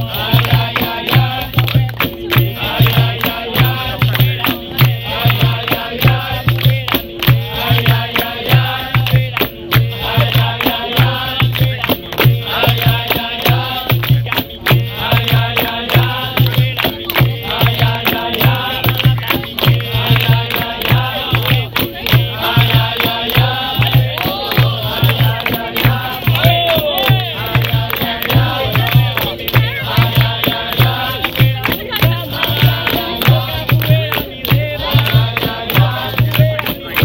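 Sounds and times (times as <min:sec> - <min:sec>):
low drum beat: 0:00.0 - 0:37.0
people singing: 0:00.0 - 0:37.0
rattling percussion: 0:00.0 - 0:37.0.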